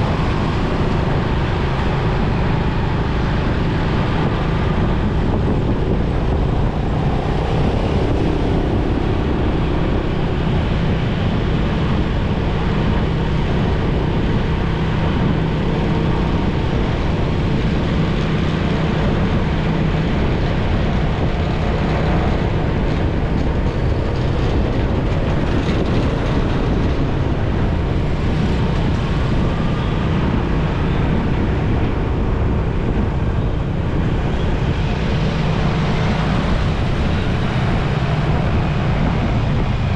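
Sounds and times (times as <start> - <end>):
motorcycle engine hum: 0.0 - 39.9
road and rushing air noise: 0.0 - 39.9.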